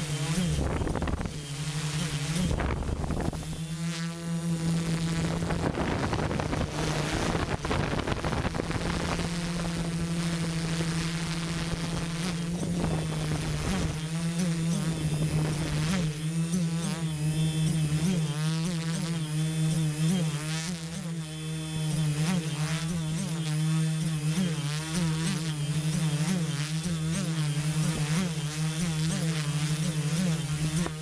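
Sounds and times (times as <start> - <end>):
drone motors buzzing: 0.0 - 31.0.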